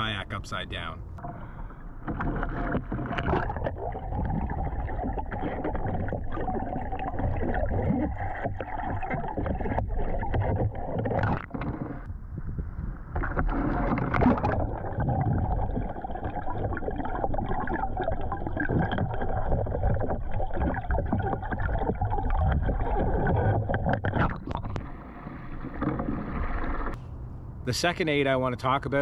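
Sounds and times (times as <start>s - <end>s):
muffled underwater sloshing and gurgling: 0.8s - 27.0s
sharp water splashes: 1.2s - 12.1s, 13.1s - 27.0s.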